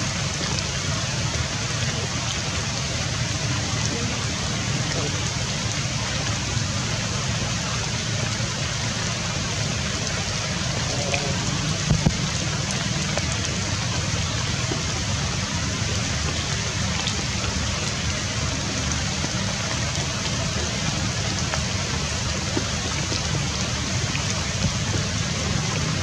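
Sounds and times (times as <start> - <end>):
rain on leaves and wet ground: 0.0 - 26.0.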